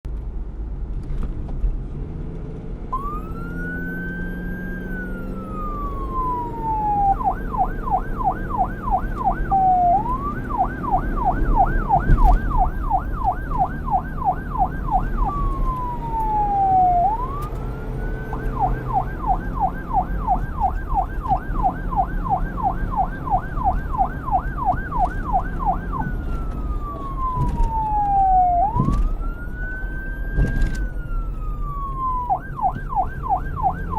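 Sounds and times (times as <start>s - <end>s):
police siren wailing and yelping: 2.9s - 33.9s.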